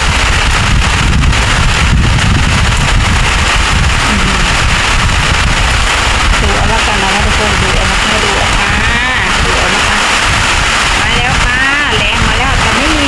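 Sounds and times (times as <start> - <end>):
driving rain: 0.0 - 13.0
storm wind buffeting microphone: 0.0 - 13.0.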